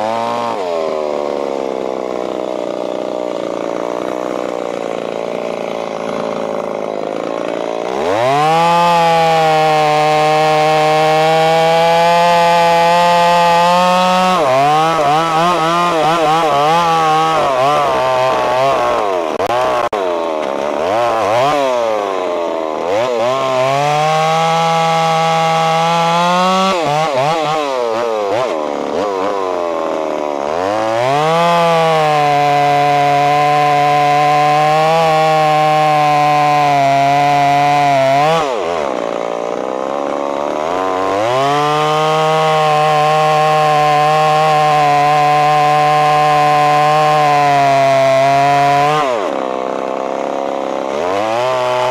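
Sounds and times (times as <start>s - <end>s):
chainsaw cutting log: 0.0s - 51.9s.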